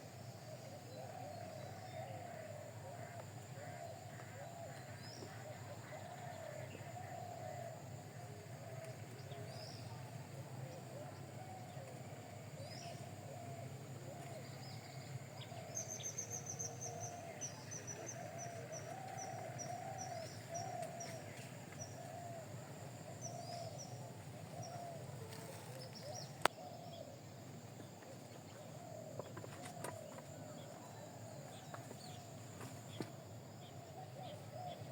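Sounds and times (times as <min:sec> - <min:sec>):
lower wavering bird calls: 0:00.0 - 0:34.9.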